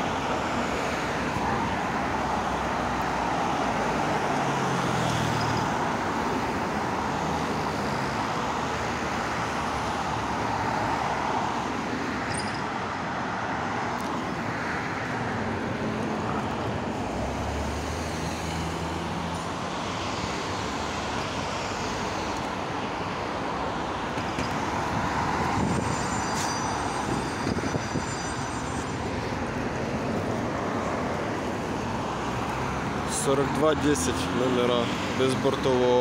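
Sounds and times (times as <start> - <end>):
buses driving past: 0.0 - 36.0
cars driving past: 0.0 - 36.0.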